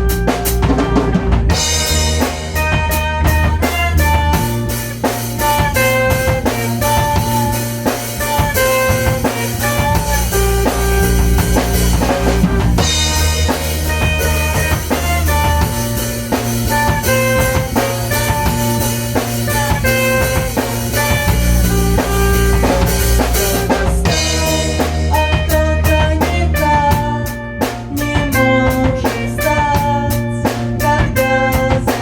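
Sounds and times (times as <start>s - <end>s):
band playing instrumental: 0.0s - 32.0s
drum kit with rimshots: 0.0s - 32.0s.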